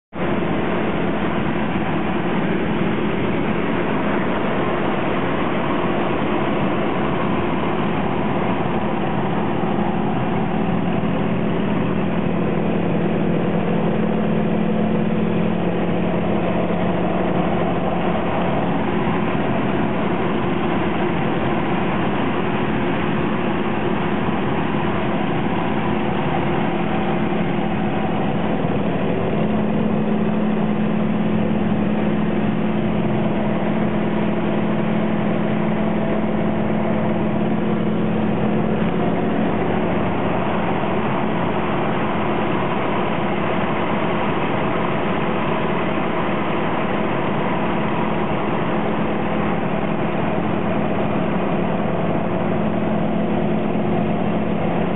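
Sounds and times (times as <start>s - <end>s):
propeller aircraft engine drone: 0.1s - 54.9s.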